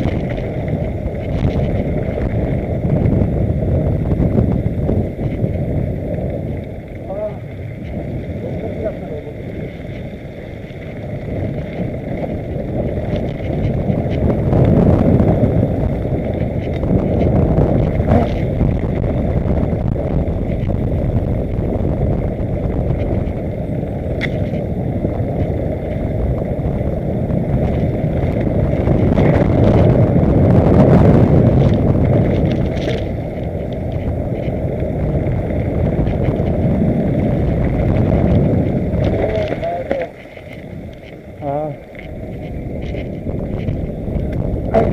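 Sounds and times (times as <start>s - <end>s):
bike tyres rumbling on dirt: 0.0s - 44.9s
wind on microphone: 0.0s - 44.9s.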